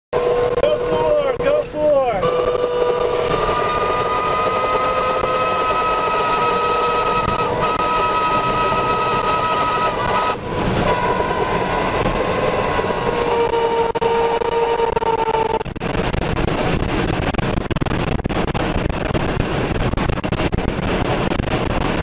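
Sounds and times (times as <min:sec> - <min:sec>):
tornado wind roar: 0:00.2 - 0:22.0.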